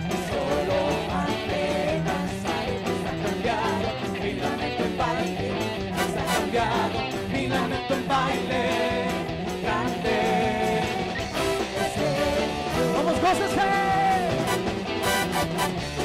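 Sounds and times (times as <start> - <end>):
people singing: 0.0 - 15.7
drum kit: 0.0 - 16.0
electric guitar: 0.0 - 16.0.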